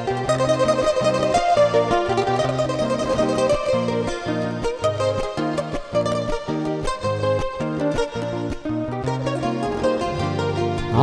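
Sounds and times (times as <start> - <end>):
acoustic guitars playing: 0.0 - 11.0.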